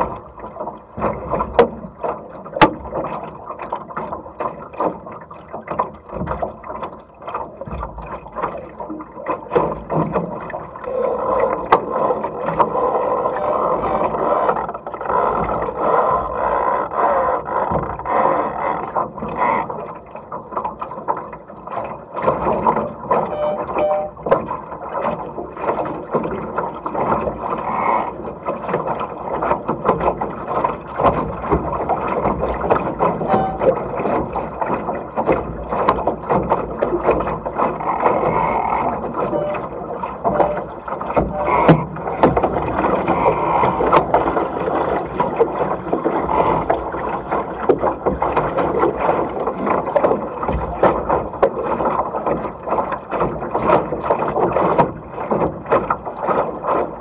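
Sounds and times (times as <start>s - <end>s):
water slapping against hull: 0.0s - 57.0s.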